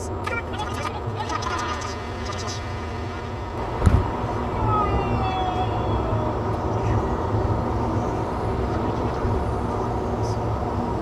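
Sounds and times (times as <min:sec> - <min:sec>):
car cabin road and engine drone: 0:00.0 - 0:11.0.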